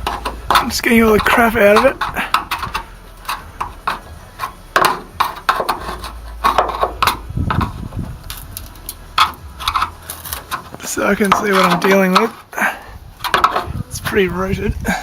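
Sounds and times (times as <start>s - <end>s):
hand tool scraping metal: 0.0s - 14.3s.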